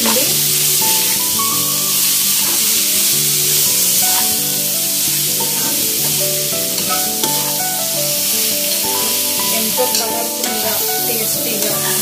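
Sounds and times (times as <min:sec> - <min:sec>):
food sizzling in hot oil: 0:00.0 - 0:12.0
spatula stirring in a pan: 0:00.0 - 0:12.0.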